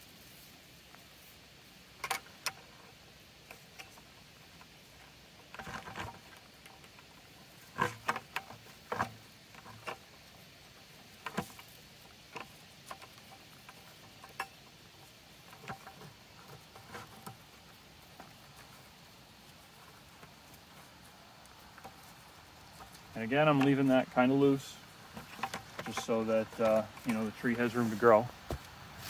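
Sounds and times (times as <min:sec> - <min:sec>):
twine and plastic rustling: 0:00.0 - 0:29.0.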